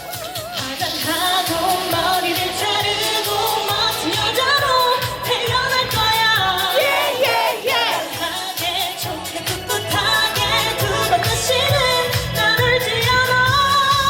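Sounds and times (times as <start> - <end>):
person singing: 0.0 - 14.0
pop backing track with beat: 0.0 - 14.0.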